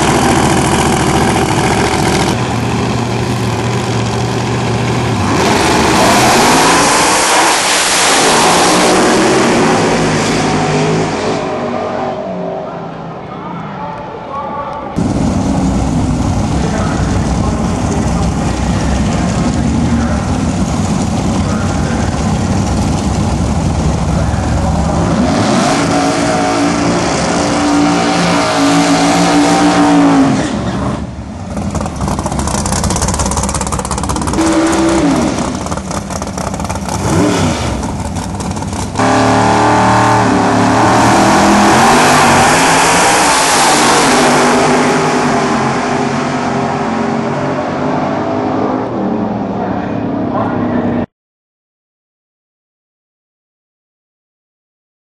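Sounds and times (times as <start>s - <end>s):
cars launching at full throttle: 0.0s - 13.2s, 15.0s - 51.1s
race car engines revving: 0.0s - 51.1s.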